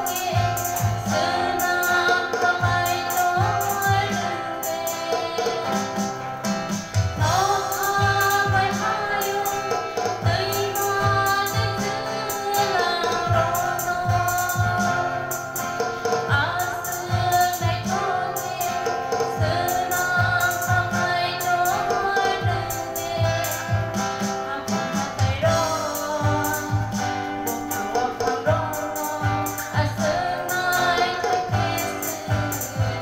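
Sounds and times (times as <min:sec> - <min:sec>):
girl singing: 0:00.0 - 0:06.4, 0:07.2 - 0:33.0
strummed acoustic guitar: 0:00.0 - 0:33.0.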